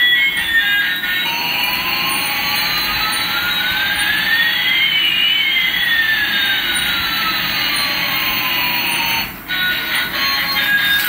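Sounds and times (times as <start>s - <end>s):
rising and falling whines: 0.0s - 11.0s
electronic jet engine hiss: 0.4s - 11.0s.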